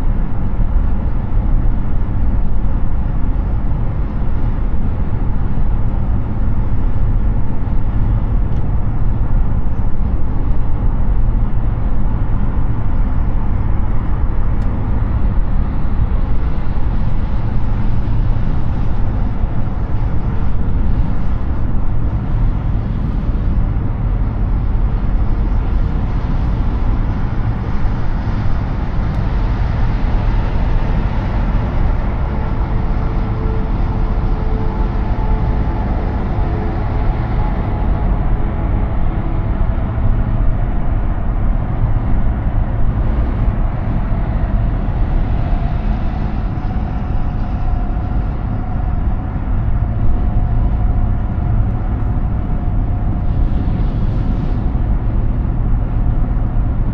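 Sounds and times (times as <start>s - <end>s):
car tyre and wind noise: 0.0s - 56.9s.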